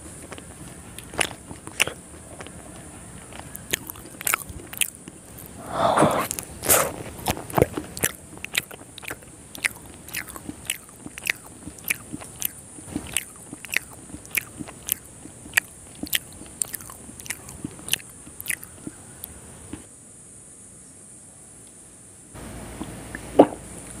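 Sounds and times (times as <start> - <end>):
wet chewing and mouth smacks: 0.0 - 19.9.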